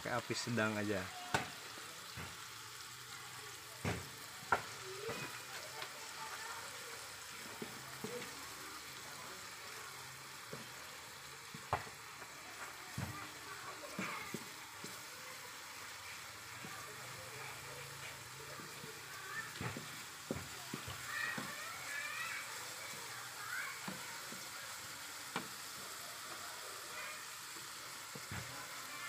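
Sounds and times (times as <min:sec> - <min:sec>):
paste sizzling in oil: 0:00.0 - 0:29.0.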